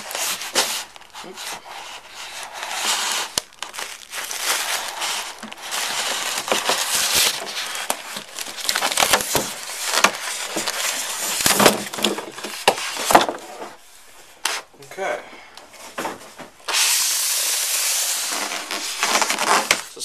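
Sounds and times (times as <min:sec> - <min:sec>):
packaging rustling and crinkling: 0:00.0 - 0:14.7, 0:15.7 - 0:20.0.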